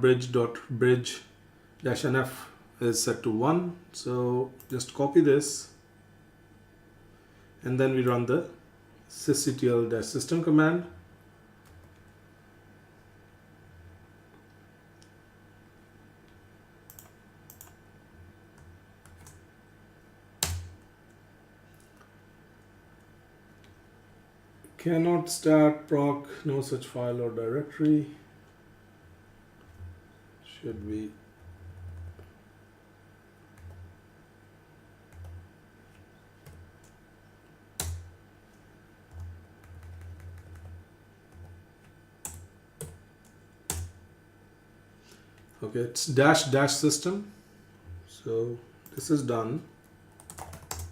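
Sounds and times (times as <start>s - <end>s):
faint electrical hum: 0.0s - 50.9s.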